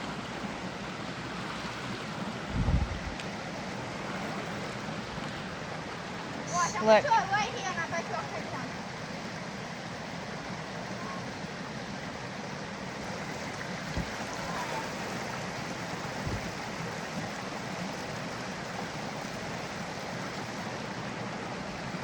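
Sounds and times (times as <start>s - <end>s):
creek water running: 0.0s - 22.0s.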